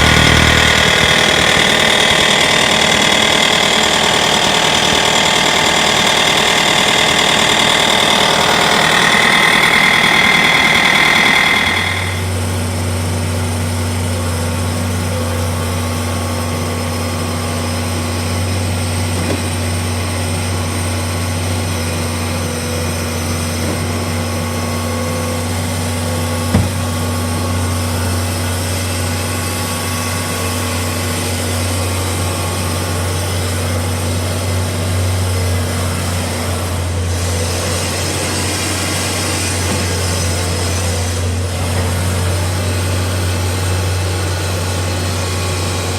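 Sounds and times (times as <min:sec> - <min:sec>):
loader diesel engine: 0:00.0 - 0:45.9.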